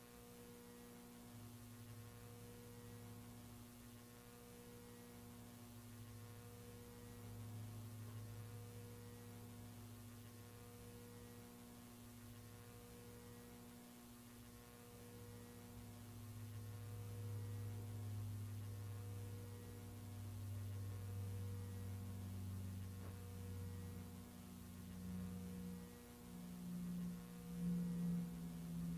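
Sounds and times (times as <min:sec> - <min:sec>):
low electrical hum: 0:00.0 - 0:28.9.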